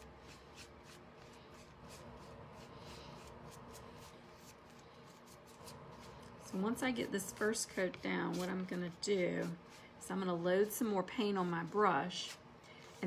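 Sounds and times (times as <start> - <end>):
scratchy brush strokes: 0.0 - 13.0
steady low hum: 0.0 - 13.0.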